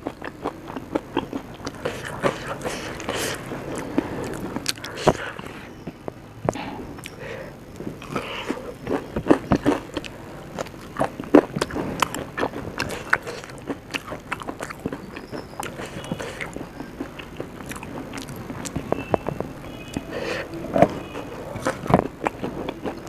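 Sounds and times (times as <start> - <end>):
chewing clicks: 0.0 - 23.0
person crunching food: 0.0 - 23.0.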